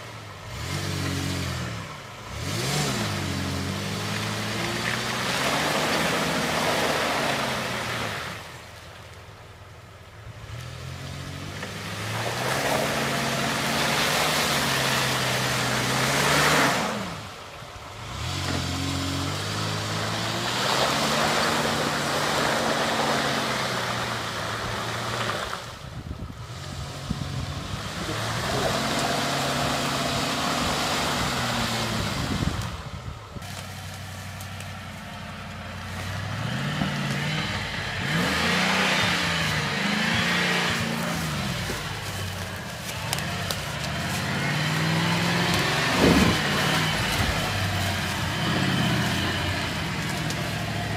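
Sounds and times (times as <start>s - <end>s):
off-road engine revving: 0.0s - 8.8s, 10.0s - 50.9s.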